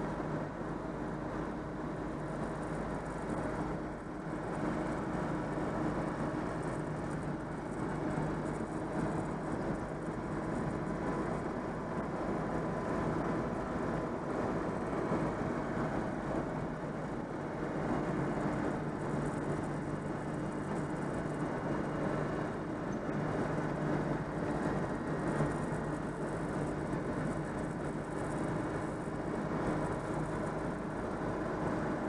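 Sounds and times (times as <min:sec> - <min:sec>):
car engine running: 0:00.0 - 0:32.0.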